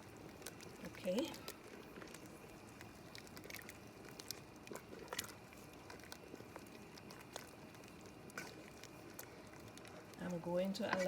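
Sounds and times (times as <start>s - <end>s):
soup simmering with pops: 0.0s - 11.0s.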